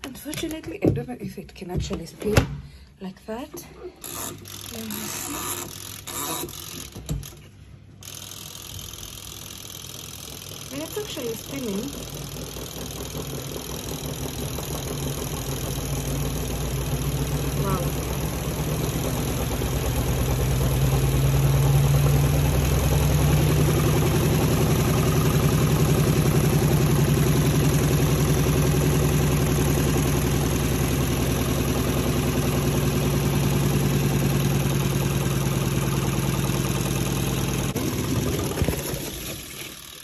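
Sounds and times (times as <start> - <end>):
washing machine motor hum: 3.8 - 40.0.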